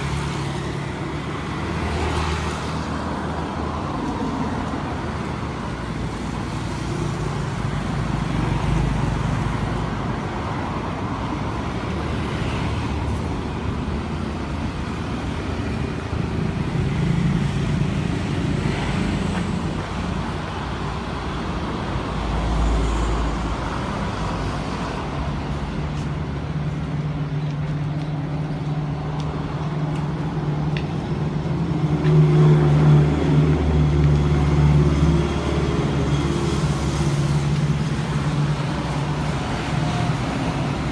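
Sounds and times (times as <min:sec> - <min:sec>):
road traffic noise: 0:00.0 - 0:40.9.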